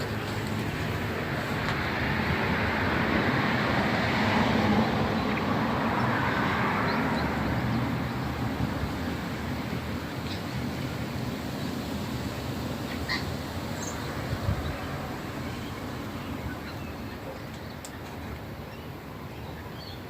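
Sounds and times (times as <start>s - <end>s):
passing vehicle road noise: 0.0s - 18.6s.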